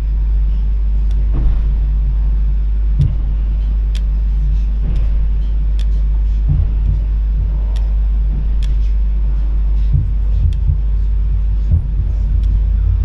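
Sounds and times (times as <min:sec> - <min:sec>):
train carriage rumbling: 0:00.0 - 0:13.0
sharp clicks and knocks: 0:01.0 - 0:13.0.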